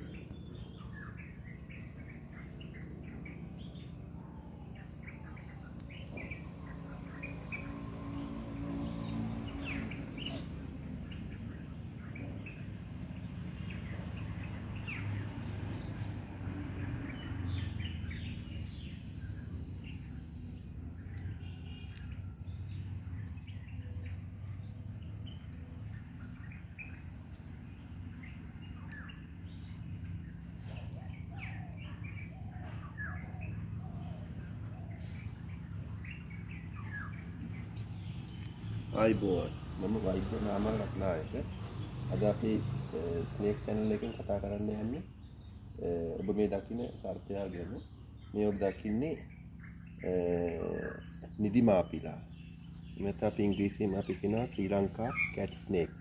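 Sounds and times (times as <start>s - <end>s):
bird chirps: 0.0s - 56.0s
high insect drone: 0.0s - 56.0s.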